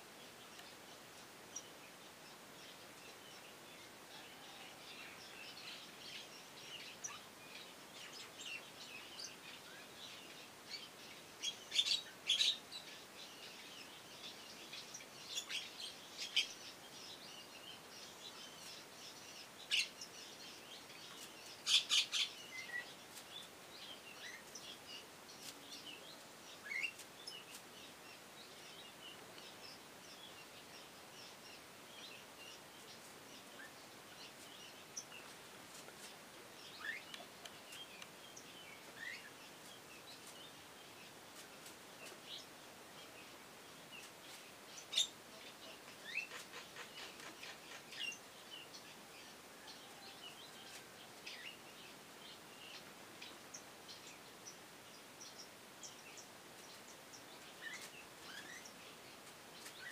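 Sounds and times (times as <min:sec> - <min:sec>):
birds chirping: 0:00.0 - 0:59.9
faint outdoor background: 0:00.0 - 0:59.9.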